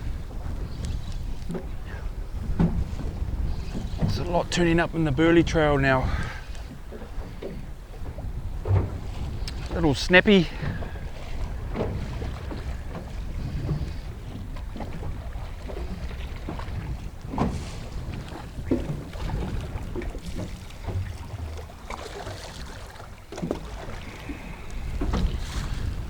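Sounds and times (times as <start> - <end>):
knocks and clicks on boat: 0.0 - 26.0
wind buffeting microphone: 0.0 - 26.0.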